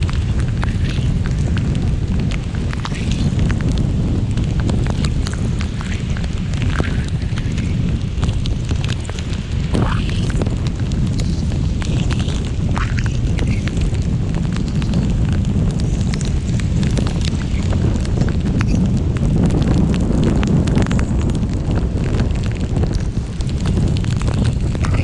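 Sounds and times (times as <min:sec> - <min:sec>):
heavy rain on a moving car: 0:00.0 - 0:25.0
wind roar: 0:00.0 - 0:25.0.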